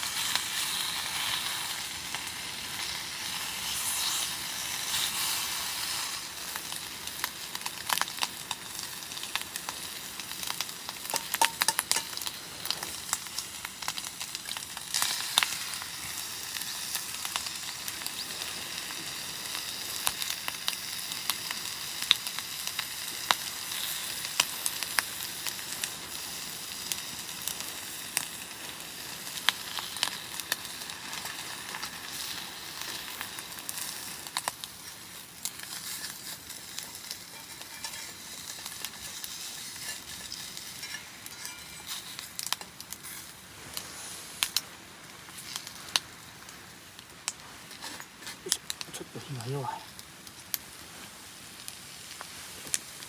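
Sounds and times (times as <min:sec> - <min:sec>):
campfire crackling and hissing: 0:00.0 - 0:53.0.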